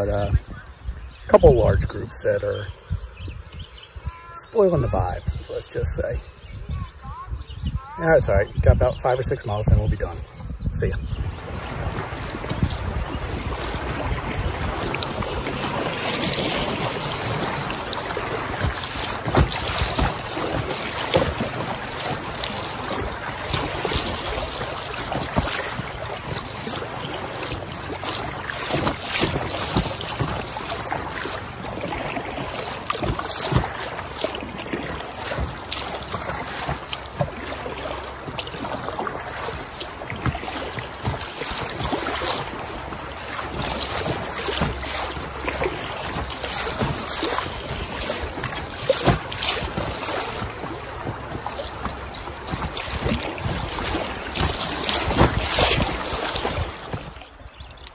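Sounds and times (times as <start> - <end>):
moving water: 0.0 - 57.9
wind buffeting microphone: 0.0 - 57.9
paddle splashes: 1.3 - 57.9.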